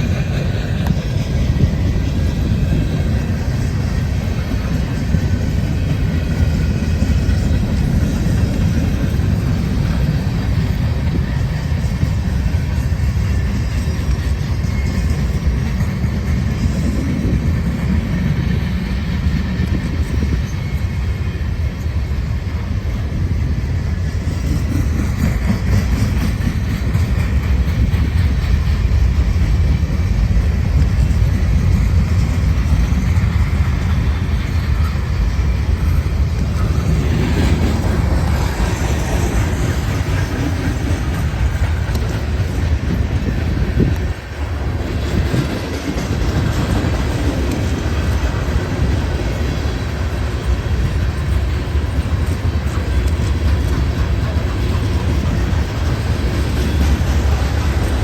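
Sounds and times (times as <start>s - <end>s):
freight train cars rolling on rails: 0.0s - 58.0s
wheel and rail noise: 0.0s - 58.0s.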